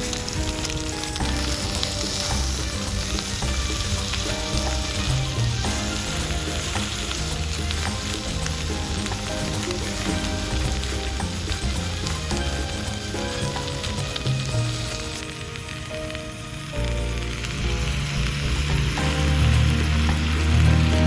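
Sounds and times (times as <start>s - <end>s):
stir-fry sizzling in a frying pan: 0.0s - 21.0s.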